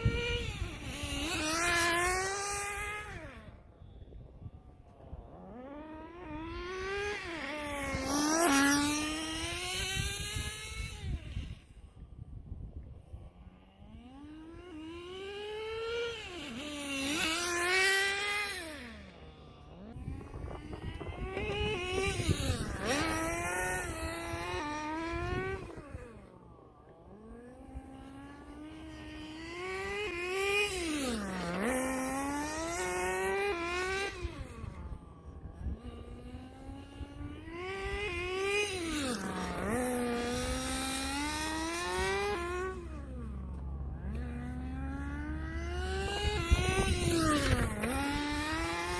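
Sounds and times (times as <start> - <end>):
model car engine buzzing: 0.0 - 48.9.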